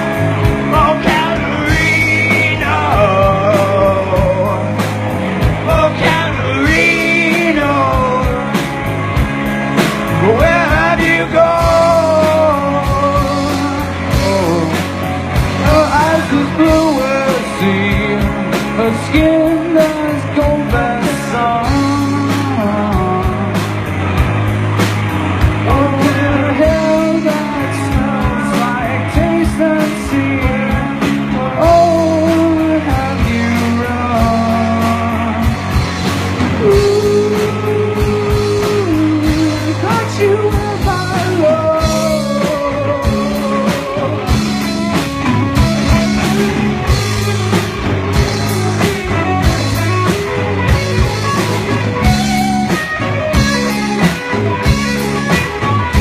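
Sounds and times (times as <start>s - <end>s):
melodic lead guitar line: 0.0s - 56.0s
rock band playing: 0.0s - 56.0s.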